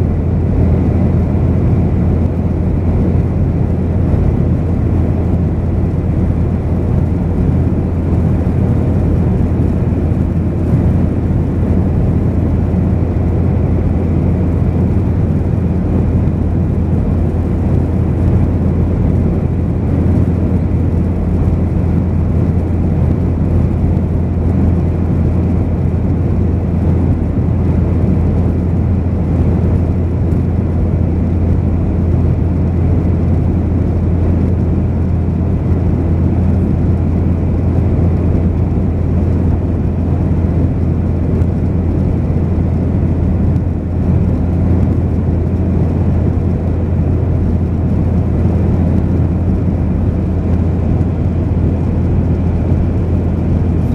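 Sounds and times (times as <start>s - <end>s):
jet engine drone: 0.0s - 53.9s.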